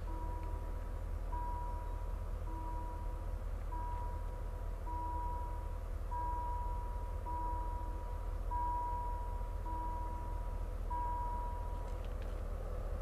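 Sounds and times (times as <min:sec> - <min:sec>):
level crossing warning beeps: 0:00.0 - 0:12.0
train rumbling: 0:00.0 - 0:13.0.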